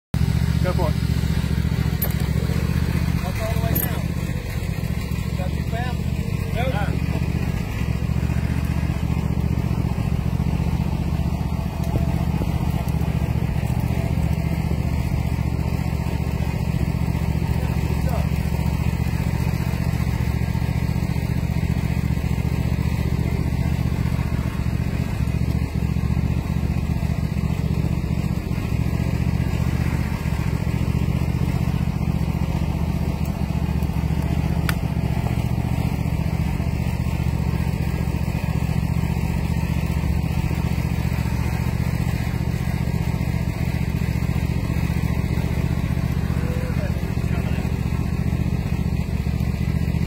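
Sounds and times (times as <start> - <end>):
small engine running: 0.2 - 50.0.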